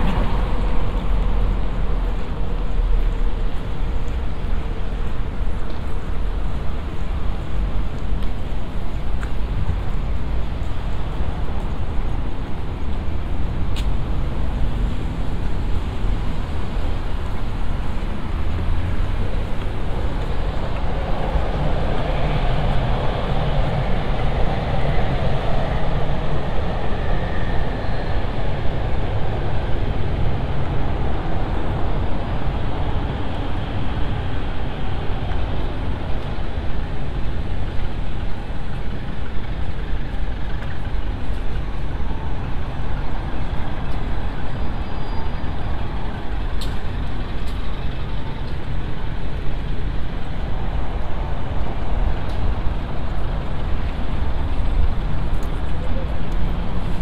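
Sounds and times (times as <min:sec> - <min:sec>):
busy road traffic rumble: 0:00.0 - 0:57.0.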